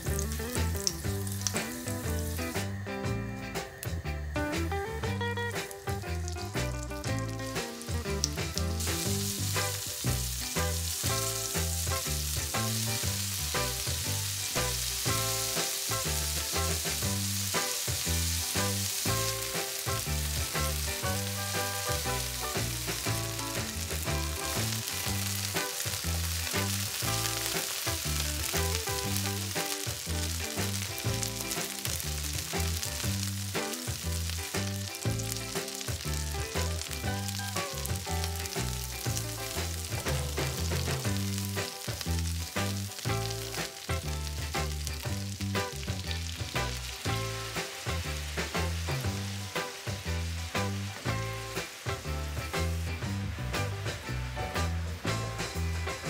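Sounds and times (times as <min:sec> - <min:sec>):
background music with steady beat: 0:00.0 - 0:56.0
chicken sizzling in hot oil: 0:00.0 - 0:56.0.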